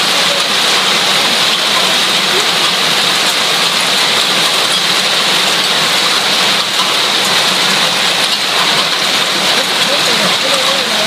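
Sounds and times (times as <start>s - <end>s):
hail and heavy rain: 0.0s - 11.0s.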